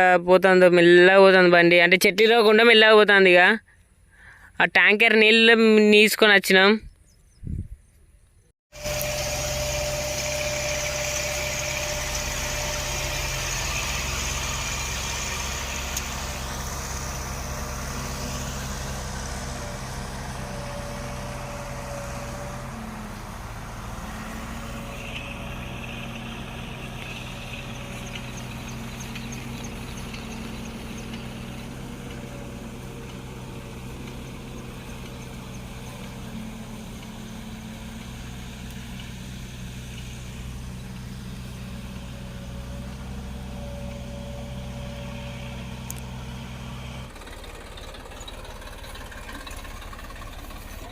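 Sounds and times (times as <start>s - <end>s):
tractor engine running: 8.7s - 50.9s.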